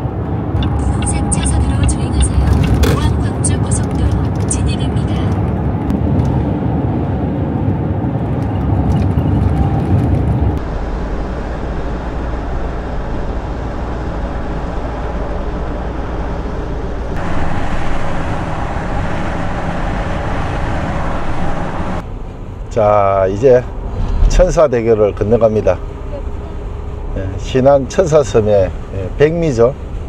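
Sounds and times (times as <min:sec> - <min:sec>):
car engine rumble: 0:00.0 - 0:30.0.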